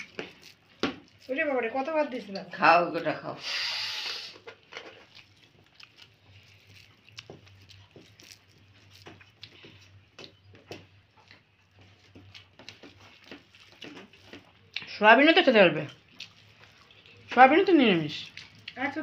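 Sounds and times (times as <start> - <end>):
person chewing: 0.0 - 1.4, 3.5 - 15.0, 15.8 - 19.0.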